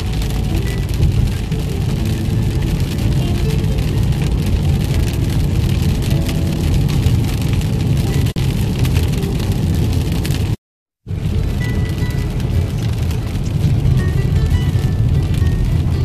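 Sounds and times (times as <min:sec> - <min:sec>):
rain on car windscreen: 0:00.0 - 0:16.0
road and engine noise: 0:00.0 - 0:16.0.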